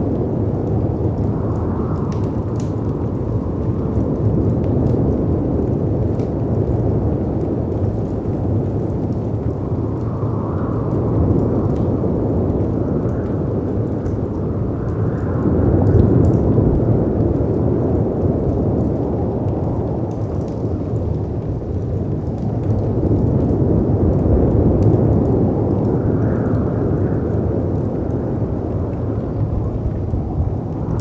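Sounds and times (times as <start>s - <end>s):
log fire crackling: 0.0s - 31.0s
wind: 0.0s - 31.0s.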